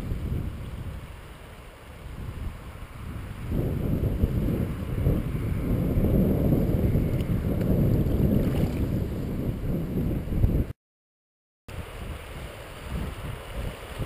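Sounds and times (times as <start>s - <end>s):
wind buffeting microphone: 0.0s - 10.8s, 11.7s - 14.0s.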